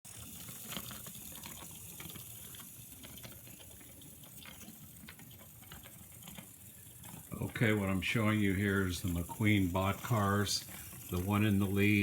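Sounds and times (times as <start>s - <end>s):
small clicks: 0.1s - 11.9s
small motors whirring: 0.1s - 12.0s.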